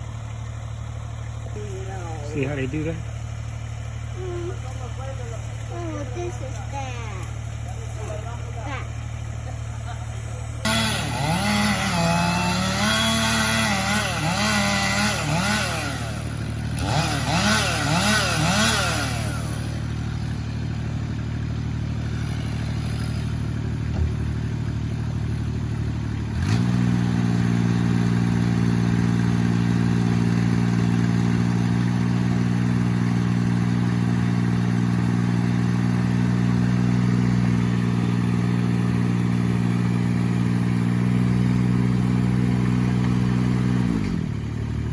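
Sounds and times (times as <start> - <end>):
chainsaw cutting: 0.0 - 44.9
larger engine humming: 0.0 - 44.9.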